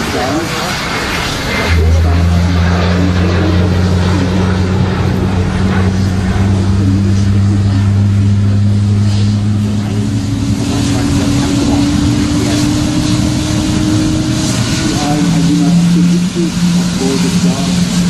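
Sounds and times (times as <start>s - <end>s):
aircraft engines droning: 0.0s - 18.0s
rushing noise: 0.0s - 18.0s.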